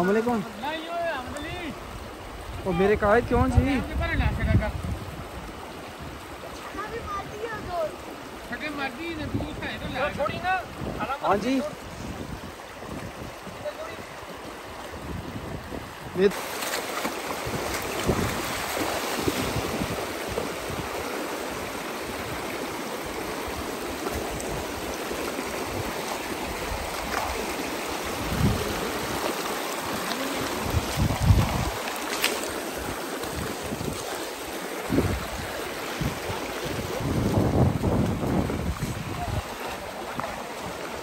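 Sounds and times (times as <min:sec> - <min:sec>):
stream water flowing: 0:00.0 - 0:41.0.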